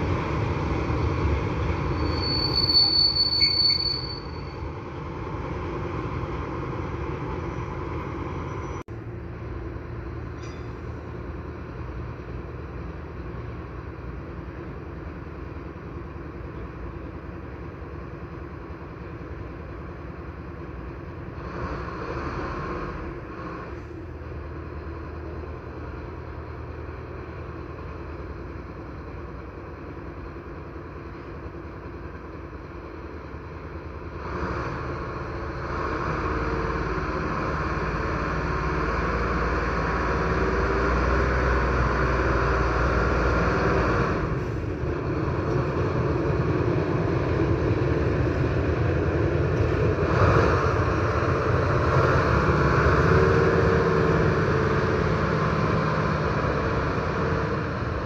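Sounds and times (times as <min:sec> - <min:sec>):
steady train whine: 0:00.0 - 0:58.0
train rumbling past: 0:00.0 - 0:58.0.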